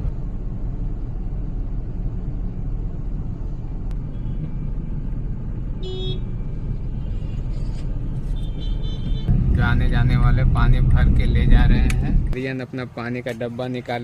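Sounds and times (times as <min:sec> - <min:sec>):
road vehicle engine and tyres rumble: 0:00.0 - 0:14.0.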